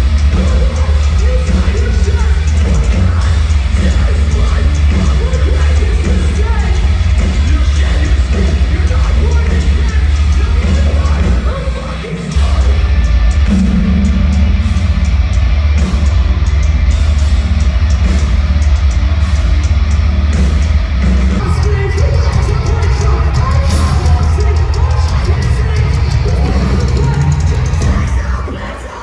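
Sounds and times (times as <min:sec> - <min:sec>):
heavy metal band playing live: 0:00.0 - 0:29.0.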